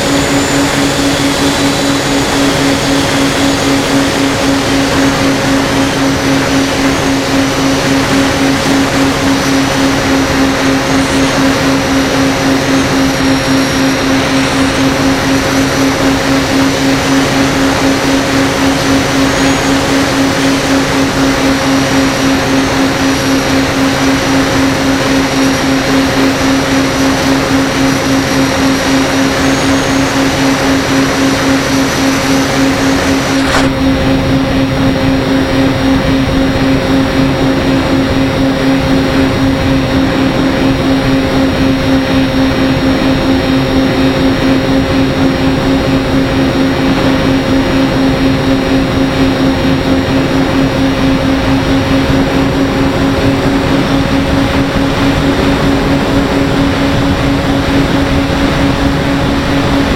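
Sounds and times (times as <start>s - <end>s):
dense rushing noise: 0.0s - 59.9s
propeller motor drone: 0.0s - 59.9s.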